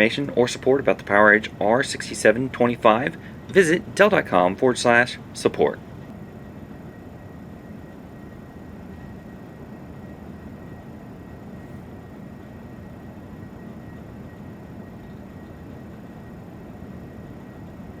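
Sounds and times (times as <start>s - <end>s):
faint high whining tones: 0.0s - 18.0s
low rumble and hiss: 0.0s - 18.0s.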